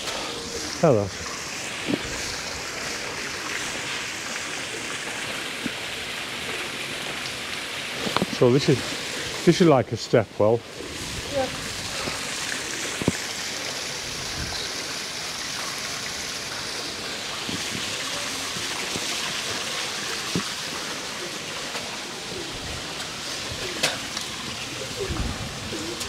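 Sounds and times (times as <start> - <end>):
steady rushing hiss: 0.0 - 26.0.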